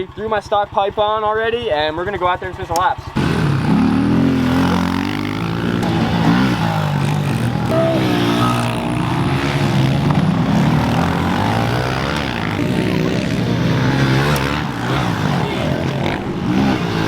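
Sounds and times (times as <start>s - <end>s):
pit bike engines revving: 0.0s - 17.0s.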